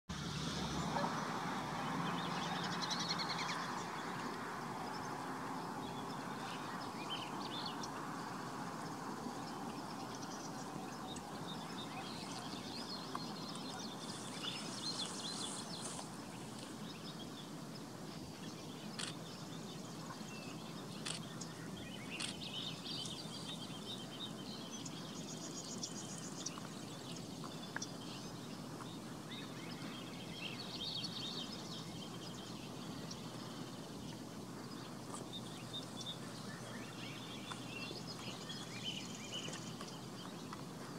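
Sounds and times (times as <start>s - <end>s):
small birds chirping: 0.1s - 40.9s
steady background hiss: 0.1s - 40.9s.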